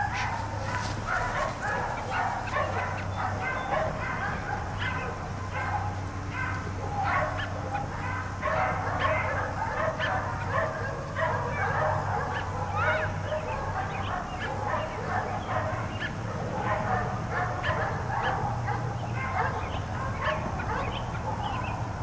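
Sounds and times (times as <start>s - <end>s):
dogs barking and yipping: 0.0s - 22.0s
steady low hum: 0.0s - 22.0s.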